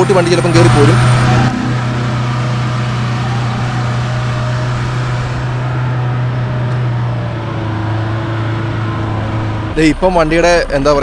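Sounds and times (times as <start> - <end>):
jeep engine running: 0.0 - 11.0.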